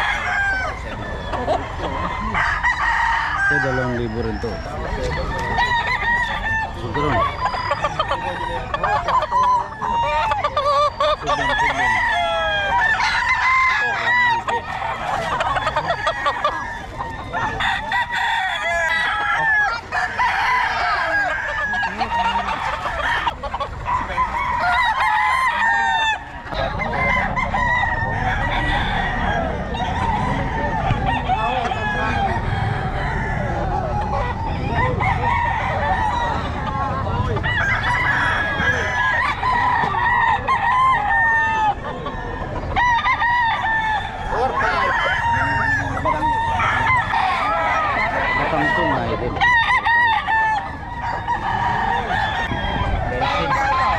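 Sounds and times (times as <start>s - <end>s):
roosters crowing: 0.0s - 53.9s.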